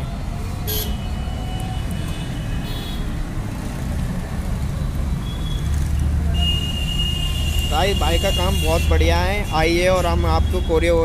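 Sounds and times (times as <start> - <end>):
low rumble of street traffic: 0.0 - 11.0.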